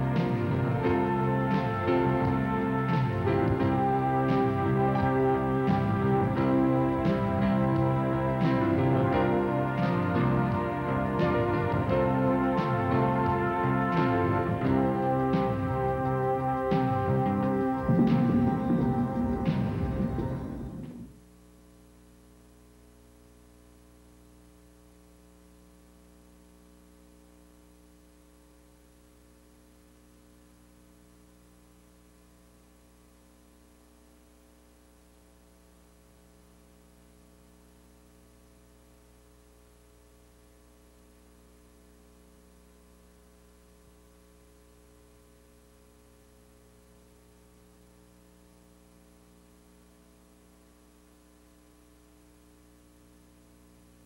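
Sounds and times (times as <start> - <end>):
faint mains hum: 0.0 - 54.0.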